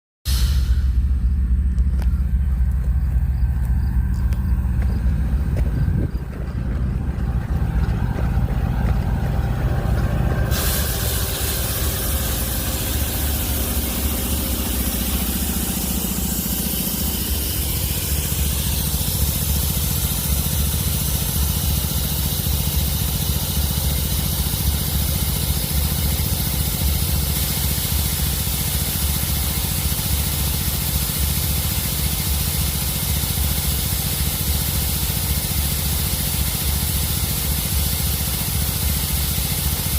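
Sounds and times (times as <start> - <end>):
compressed air hissing: 0.3 - 1.6, 7.6 - 39.9
air compressor droning: 0.3 - 39.9.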